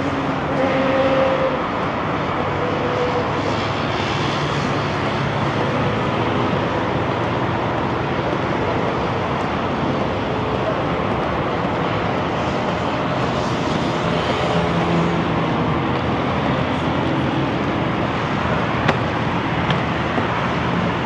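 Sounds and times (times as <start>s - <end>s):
heavy highway traffic rushing: 0.0s - 21.0s.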